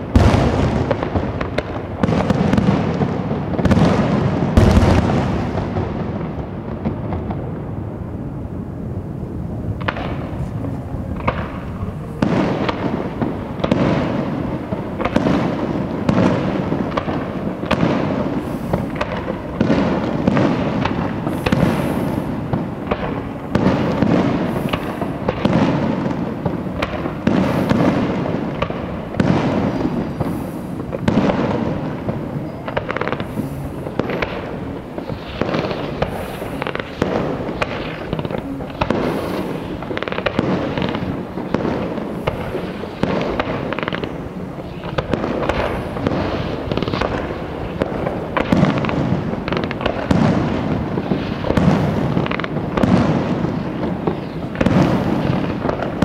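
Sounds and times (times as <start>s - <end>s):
firework shells bursting: 9.8s - 56.0s.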